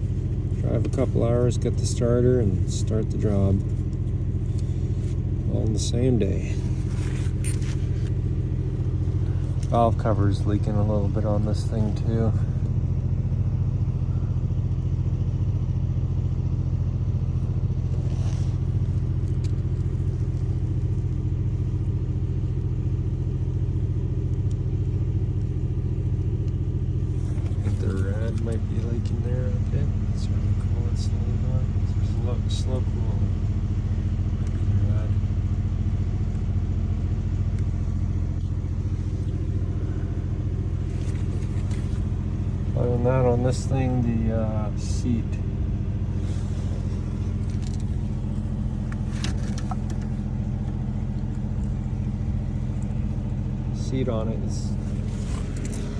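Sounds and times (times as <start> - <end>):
heavy equipment engine idling: 0.0 - 55.9.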